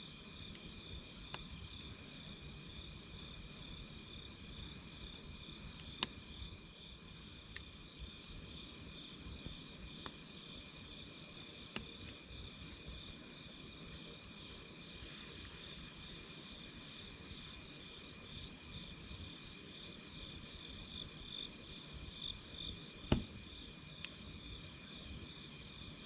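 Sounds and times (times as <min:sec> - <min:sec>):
crickets chirring: 0:00.0 - 0:26.0
campfire crackling and popping: 0:00.1 - 0:20.2, 0:22.3 - 0:24.3.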